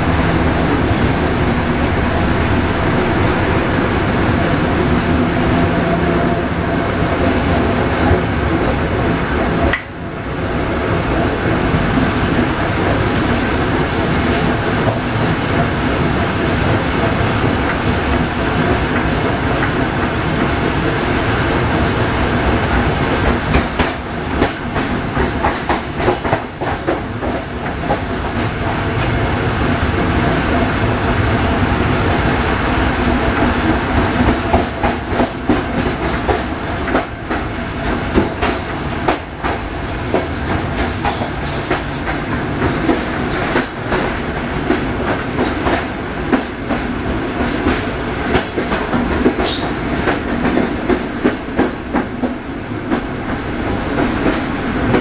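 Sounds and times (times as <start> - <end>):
diesel locomotive engine running: 0.0 - 55.0
train running gear rumble: 0.0 - 55.0.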